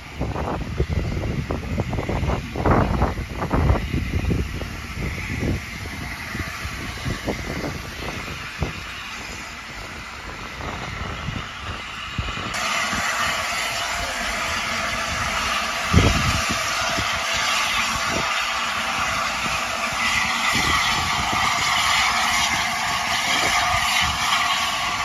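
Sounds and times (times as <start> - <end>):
steam locomotive hissing: 0.0 - 25.0
wind buffeting microphone: 0.0 - 25.0.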